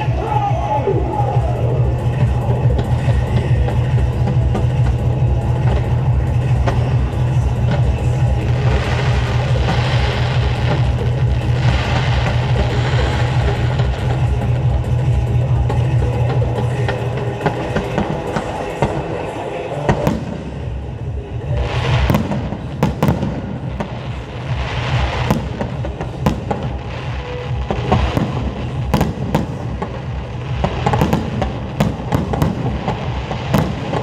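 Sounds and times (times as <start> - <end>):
fireworks bangs and cracks: 0.0 - 34.0
fireworks crackling: 0.0 - 34.0
music playing: 0.0 - 34.0.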